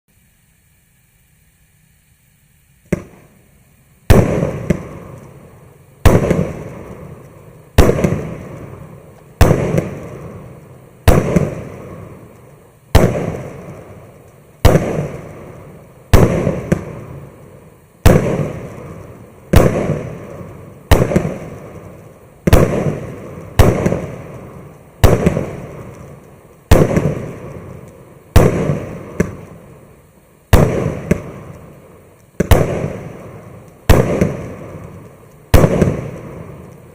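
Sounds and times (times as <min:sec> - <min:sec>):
firework bangs: 0:02.8 - 0:36.9.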